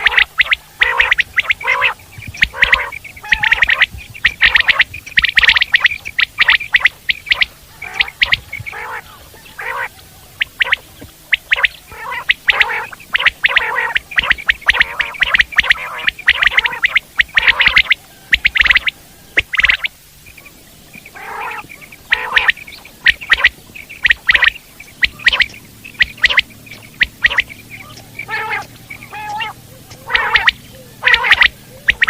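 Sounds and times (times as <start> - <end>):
quail calling: 0.0 - 32.0.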